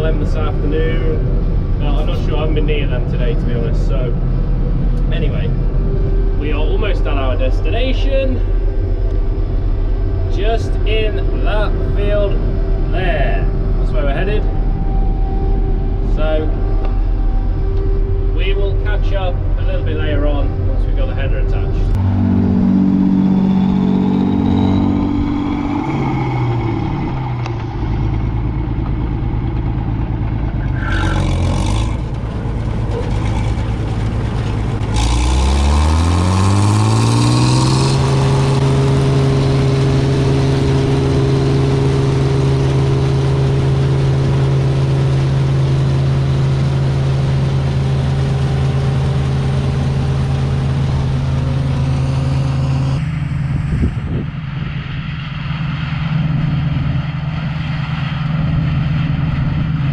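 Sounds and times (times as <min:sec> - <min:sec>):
combine harvester engine revving: 0:00.0 - 0:59.9.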